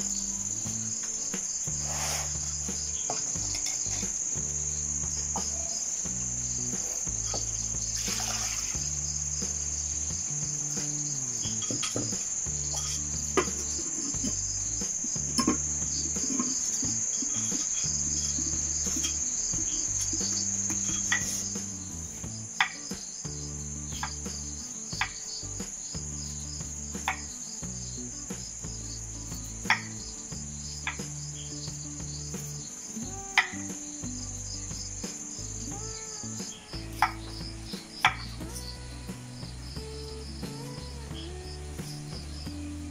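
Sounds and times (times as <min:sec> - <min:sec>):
crickets trilling: 0:00.0 - 0:42.9
soft background music: 0:00.0 - 0:42.9.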